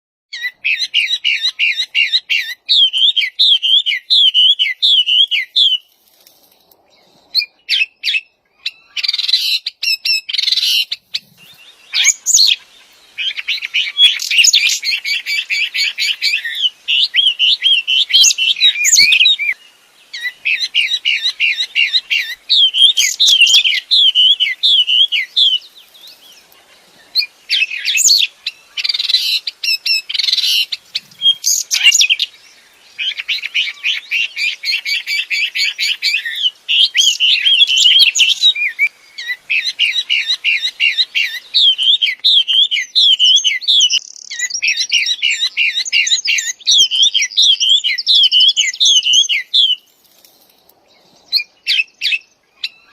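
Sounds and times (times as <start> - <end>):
songbird singing: 0.3 - 52.9.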